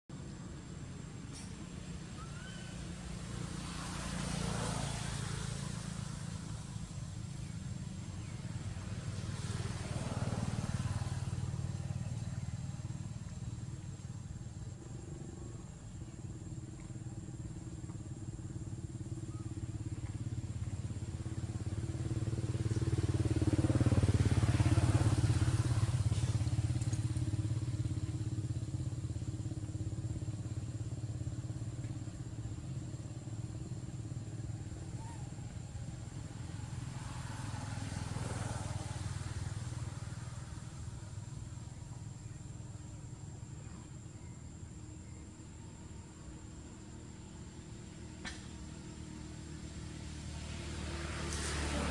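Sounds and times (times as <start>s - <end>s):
motor traffic rumble: 0.1s - 51.9s.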